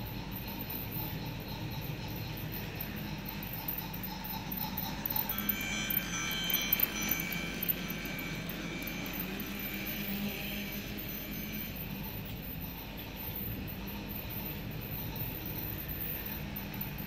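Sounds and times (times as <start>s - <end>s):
high chime-like ringing: 0.0s - 17.0s
toy train motor hum: 0.0s - 17.0s
wheels clicking on track: 0.0s - 17.0s.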